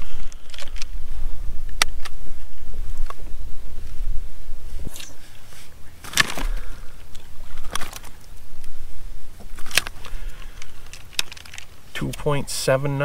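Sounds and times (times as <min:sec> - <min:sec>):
wind rumble on microphone: 0:00.0 - 0:11.9.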